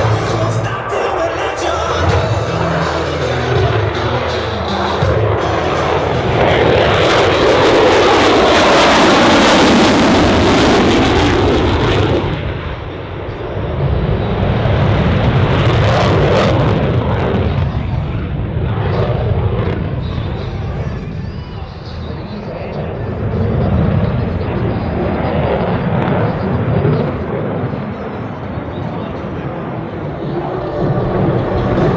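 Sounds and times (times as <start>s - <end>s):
jet passing with loud roar: 0.0s - 31.9s
low jet rumble: 0.0s - 31.9s.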